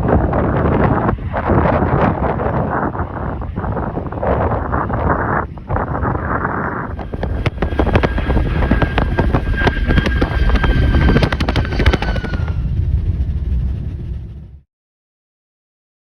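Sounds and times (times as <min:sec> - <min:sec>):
jet airliner engines whining: 0:00.0 - 0:14.6
wind buffeting microphone: 0:00.0 - 0:14.6.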